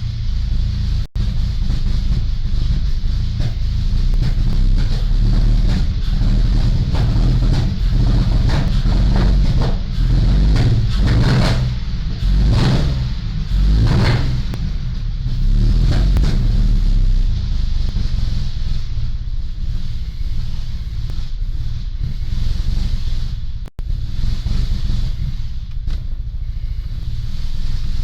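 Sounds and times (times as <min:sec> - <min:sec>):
car engine running roughly: 0:00.0 - 0:28.0.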